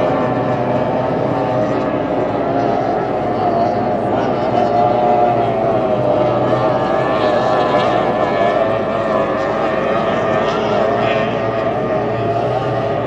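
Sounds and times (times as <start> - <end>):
powerboat engines droning: 0.0 - 13.0.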